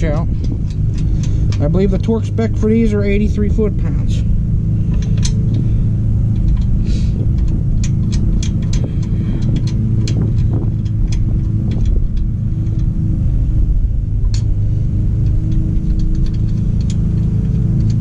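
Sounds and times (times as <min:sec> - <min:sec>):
metallic clicks of lug nuts: 0:00.0 - 0:04.2, 0:04.8 - 0:13.0, 0:14.2 - 0:18.0
faint hum: 0:00.0 - 0:18.0
steady low rumble: 0:00.0 - 0:18.0.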